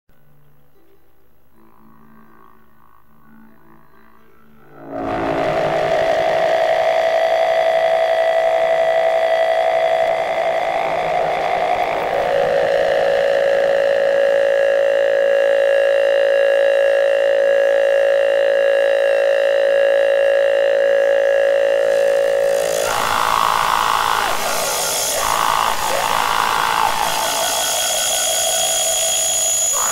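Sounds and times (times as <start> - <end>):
loud sustained drone: 4.5 - 29.9.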